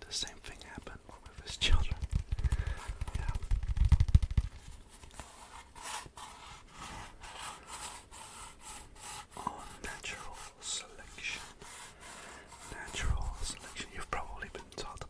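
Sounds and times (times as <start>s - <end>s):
rubbing and scraping: 0.2s - 15.0s.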